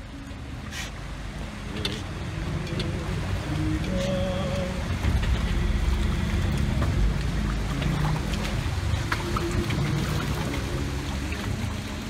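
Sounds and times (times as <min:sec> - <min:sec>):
motorboat engine running: 0:00.0 - 0:12.0
water rushing along hull: 0:00.0 - 0:12.0.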